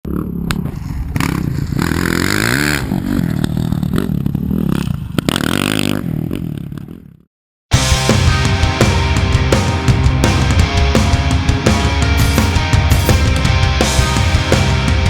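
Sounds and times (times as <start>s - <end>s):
dirt bike engine revving: 1.2s - 7.0s, 7.8s - 15.0s.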